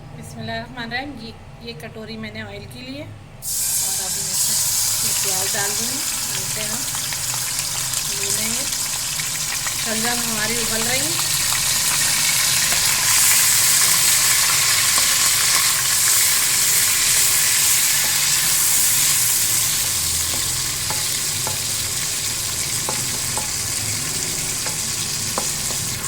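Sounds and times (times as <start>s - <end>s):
onions sizzling in hot oil: 3.4s - 26.0s.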